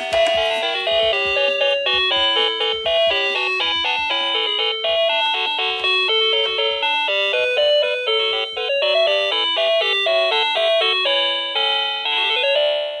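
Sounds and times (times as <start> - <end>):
toy electronic beeping melody: 0.0 - 13.0.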